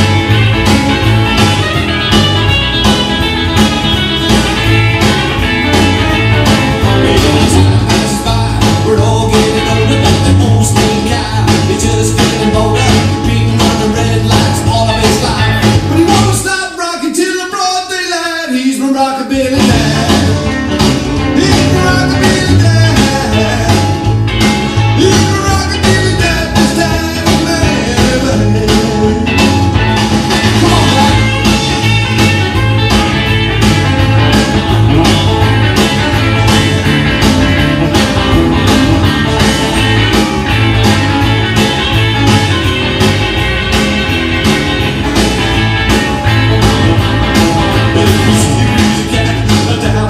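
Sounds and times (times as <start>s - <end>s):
rock and roll record playing: 0.0s - 50.0s.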